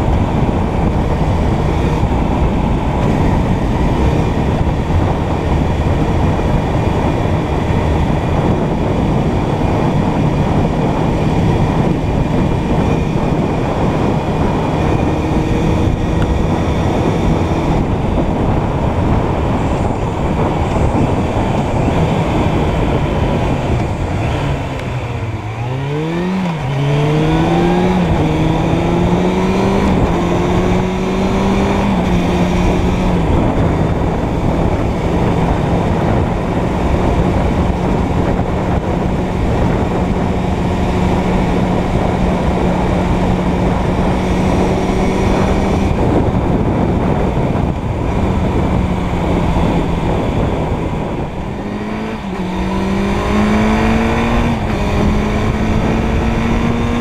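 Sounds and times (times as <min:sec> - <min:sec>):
motorcycle engine accelerating: 0:00.0 - 0:57.0
wind and road rush: 0:00.0 - 0:57.0.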